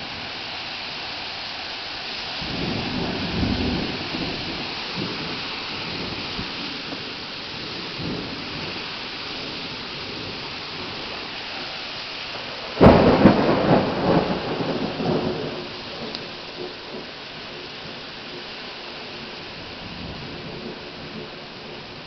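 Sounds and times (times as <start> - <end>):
heavy rain pouring: 0.0 - 22.0
thunderclap rumbling: 2.4 - 11.4, 12.4 - 18.5, 19.1 - 22.0.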